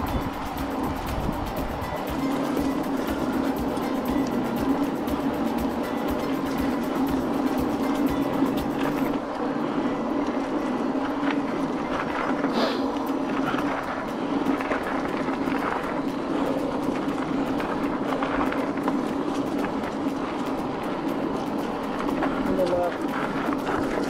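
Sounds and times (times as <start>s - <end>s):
bike tyres rolling on gravel: 0.0s - 24.0s
gravel crunches and bike rattle: 0.0s - 24.0s.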